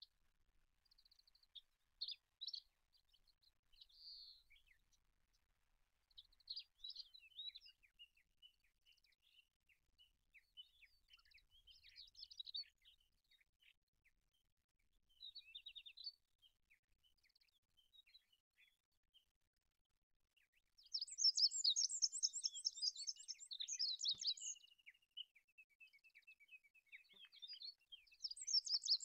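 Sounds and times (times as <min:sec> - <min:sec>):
bird singing trills and chirps: 0:00.8 - 0:05.0, 0:06.1 - 0:14.4, 0:15.1 - 0:19.3, 0:20.4 - 0:29.0.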